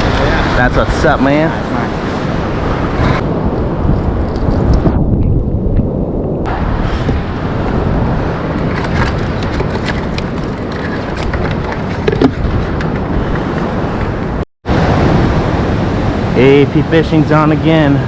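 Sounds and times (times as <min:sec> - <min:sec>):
ocean surf: 0:00.0 - 0:04.7, 0:06.4 - 0:18.0
wind buffeting microphone: 0:00.0 - 0:18.0.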